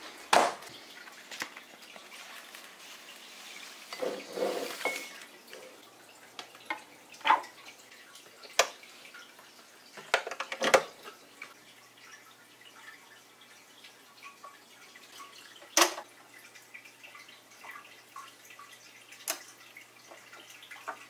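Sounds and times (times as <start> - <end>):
aquarium water trickle: 0.0 - 21.0.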